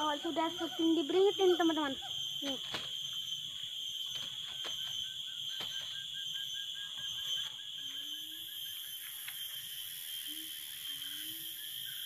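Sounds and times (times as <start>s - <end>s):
forest insects droning: 0.0s - 12.0s
insect or frog calling in pulses: 0.0s - 12.0s.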